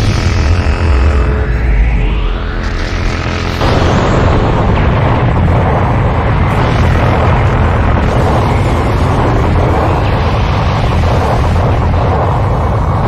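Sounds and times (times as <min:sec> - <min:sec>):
explosion-like rumble with crackle: 0:00.0 - 0:13.0.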